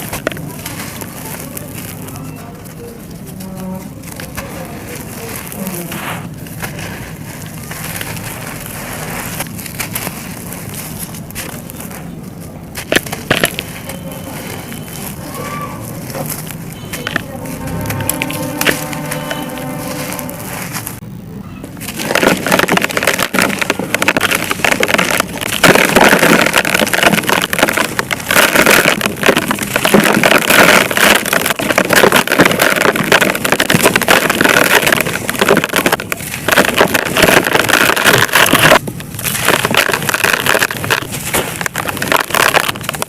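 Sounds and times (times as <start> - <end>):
dry material crunching: 0.0 - 21.0, 21.6 - 43.0.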